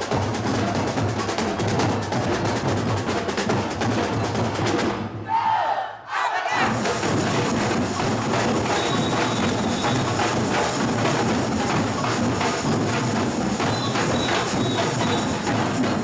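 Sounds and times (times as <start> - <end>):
samba percussion band drumming: 0.0 - 5.3, 6.6 - 16.0.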